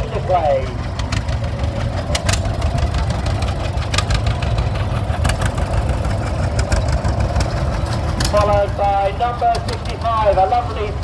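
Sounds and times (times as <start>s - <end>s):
tractor engine knocking rumble: 0.0s - 11.0s.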